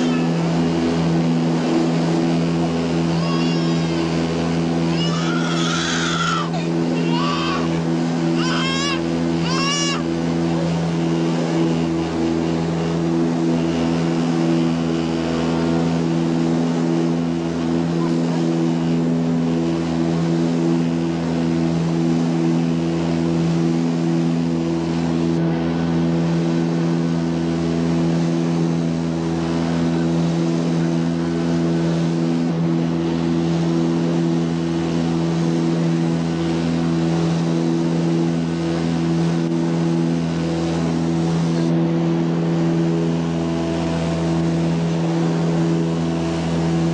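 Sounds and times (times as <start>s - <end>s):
turboprop engine drone in cabin: 0.0s - 46.9s.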